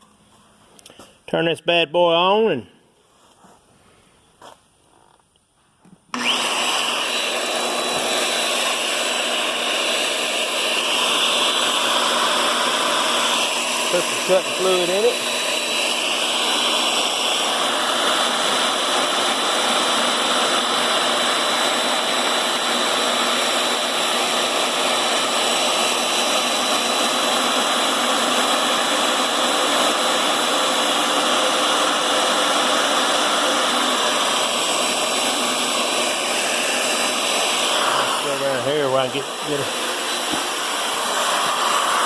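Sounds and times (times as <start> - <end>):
electric drill whirring: 6.1 - 42.0.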